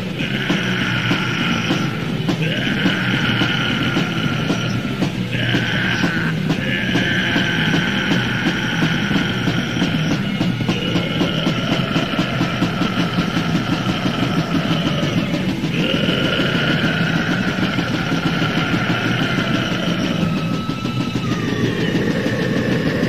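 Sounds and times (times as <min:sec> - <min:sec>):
distorted metal guitars: 0:00.0 - 0:23.0
fast drumming: 0:00.0 - 0:23.0.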